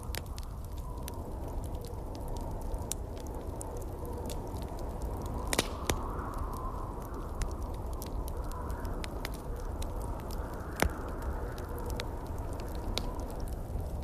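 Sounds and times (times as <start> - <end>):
low rush of wind: 0.0 - 14.0
wood fire crackling: 0.0 - 14.0.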